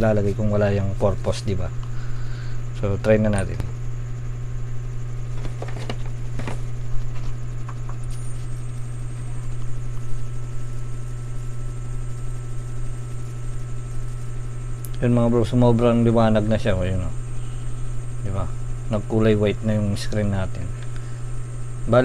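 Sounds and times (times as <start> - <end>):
electrical mains hum: 0.0 - 22.0
faint high whine: 0.0 - 22.0.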